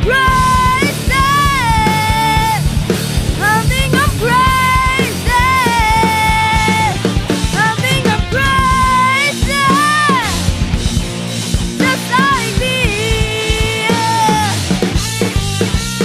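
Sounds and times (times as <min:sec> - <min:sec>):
bass guitar: 0:00.0 - 0:16.0
drums: 0:00.0 - 0:16.0
sliding lead melody: 0:00.0 - 0:16.0.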